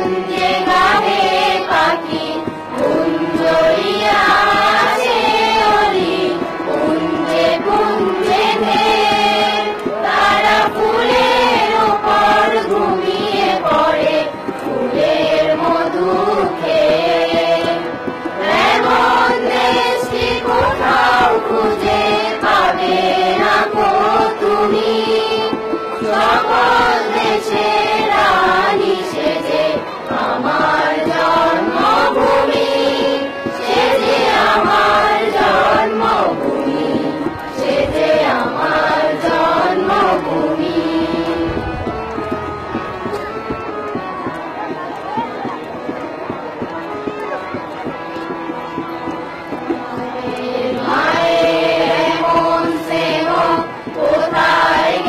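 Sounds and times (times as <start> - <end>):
children's chorus singing: 0.0 - 55.0
tabla: 0.0 - 55.0.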